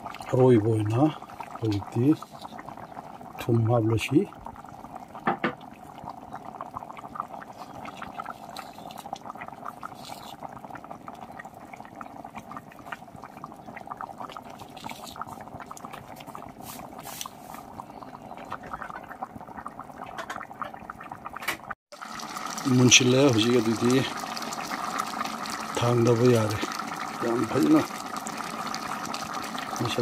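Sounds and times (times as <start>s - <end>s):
curry bubbling in a pot: 0.0s - 30.0s.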